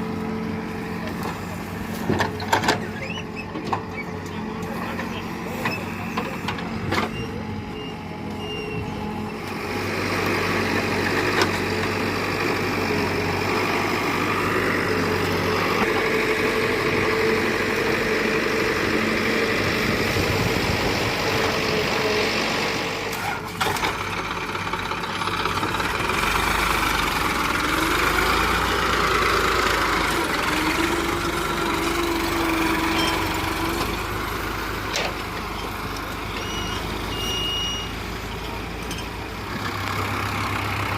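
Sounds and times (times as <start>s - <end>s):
tractor diesel engine: 0.0s - 40.9s.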